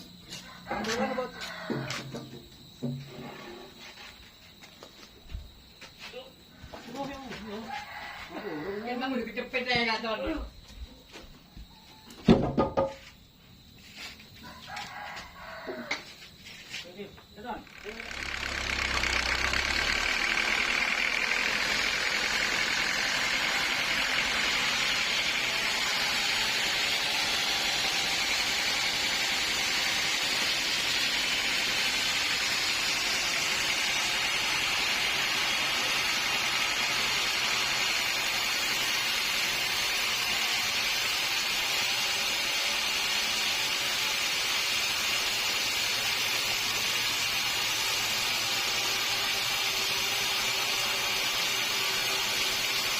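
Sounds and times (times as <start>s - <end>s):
sawmill machinery running: 0.0s - 8.4s, 13.9s - 52.9s.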